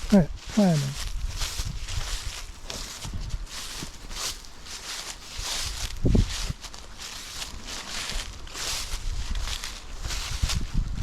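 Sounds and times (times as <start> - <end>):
footsteps on sandy ground: 0.0 - 11.0.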